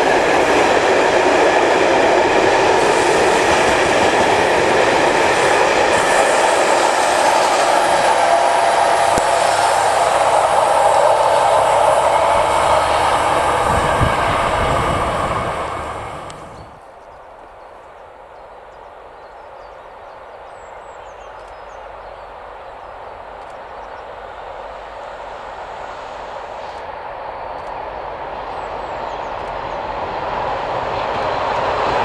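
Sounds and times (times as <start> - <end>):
distant train rumble: 0.0 - 32.0
freight train wheels on rails: 0.0 - 32.0.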